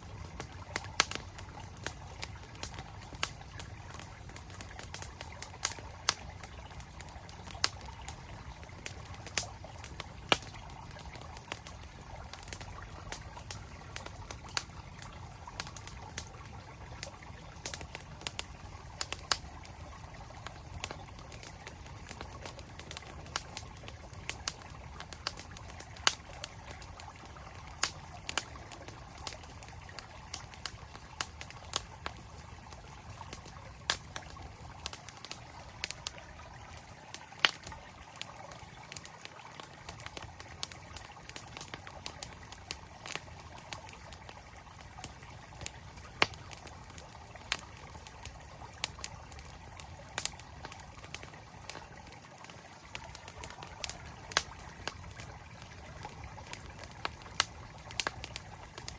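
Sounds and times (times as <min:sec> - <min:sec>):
campfire crackling and popping: 0:00.0 - 0:58.9
flowing mountain stream: 0:00.0 - 0:58.9.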